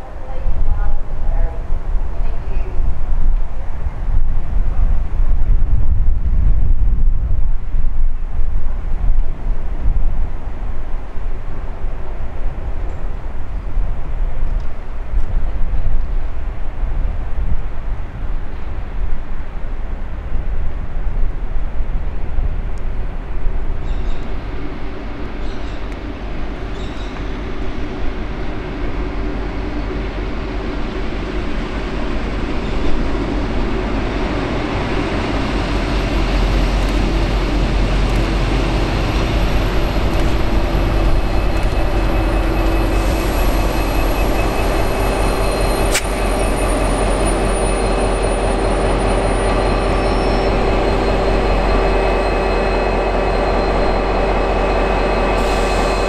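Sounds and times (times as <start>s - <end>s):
diesel locomotive engine drone: 0.0s - 56.0s
train rumbling on rails: 0.0s - 56.0s.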